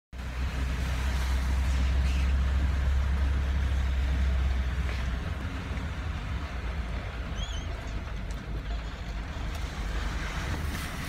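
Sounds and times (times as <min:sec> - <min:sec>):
hiss of water and rain: 0:00.2 - 0:07.6, 0:09.2 - 0:11.0.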